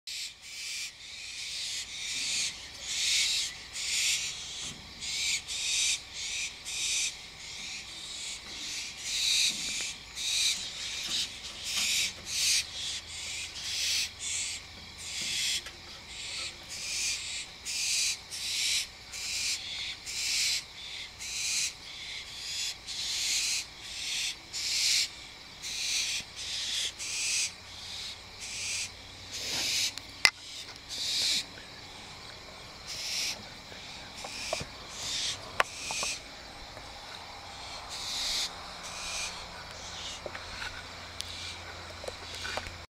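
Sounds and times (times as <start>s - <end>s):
barn owls screeching: 0.1s - 42.8s.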